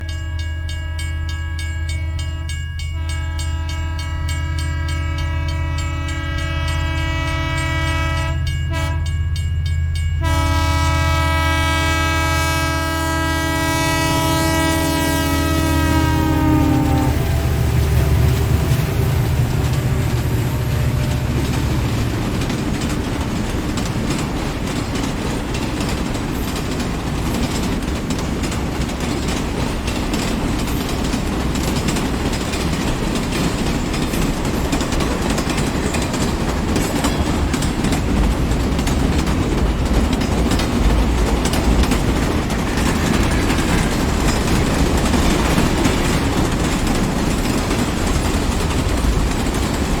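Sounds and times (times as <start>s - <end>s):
train wheels rumbling on rails: 0.0s - 50.0s
clickety-clack of track: 3.0s - 50.0s.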